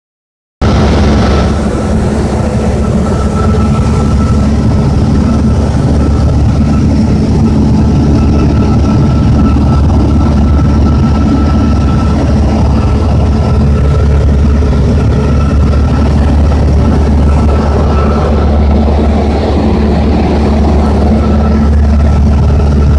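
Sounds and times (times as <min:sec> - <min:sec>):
airplane engine droning in cabin: 0:00.6 - 0:22.9.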